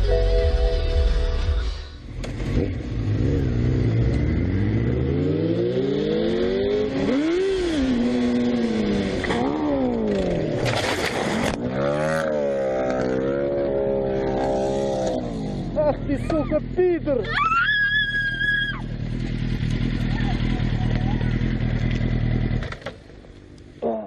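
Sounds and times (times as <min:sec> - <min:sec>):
vehicle engine revving: 0:01.2 - 0:17.2, 0:18.7 - 0:24.0.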